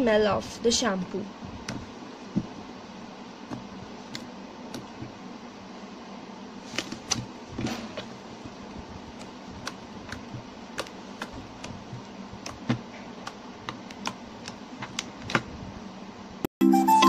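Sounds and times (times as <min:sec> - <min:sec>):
steady background hum: 0:00.0 - 0:16.5.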